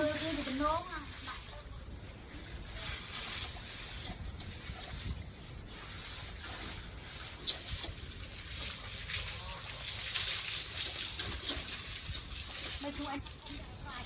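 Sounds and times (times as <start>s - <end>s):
water spraying hiss: 0.0s - 14.0s.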